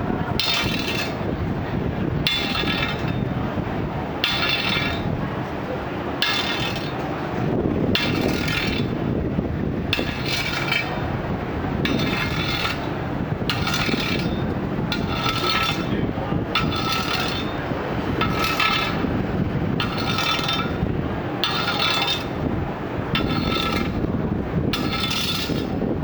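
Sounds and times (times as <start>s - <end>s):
steel bars clanging: 0.2s - 9.2s, 9.8s - 25.9s.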